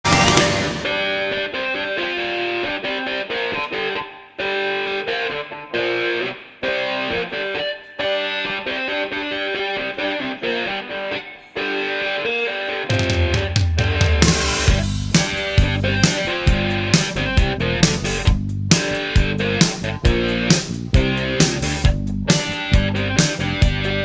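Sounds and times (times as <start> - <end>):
distorted electric guitar riff: 0.0 - 24.0.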